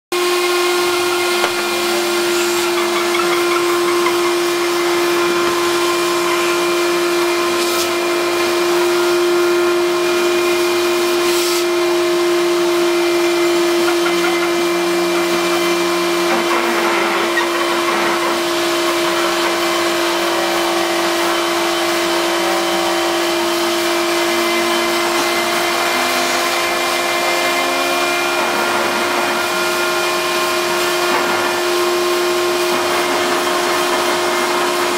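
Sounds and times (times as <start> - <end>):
vacuum cleaner running: 0.1 - 34.9
router spindle high whine: 0.2 - 34.9.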